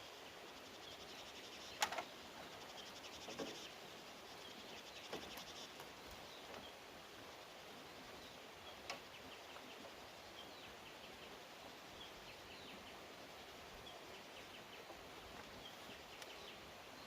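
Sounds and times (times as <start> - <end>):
high insect trill: 0.0 - 14.7.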